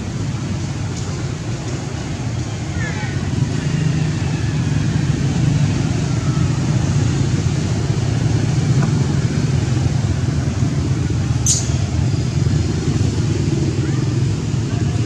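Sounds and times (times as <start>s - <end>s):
motor traffic rumble: 0.0s - 15.0s.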